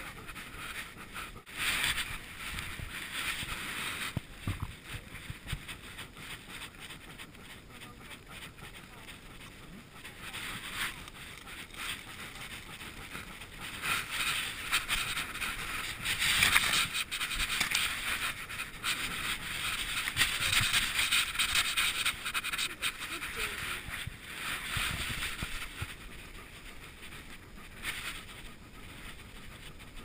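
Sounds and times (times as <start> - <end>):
grass rustling against camera: 0.0 - 30.0.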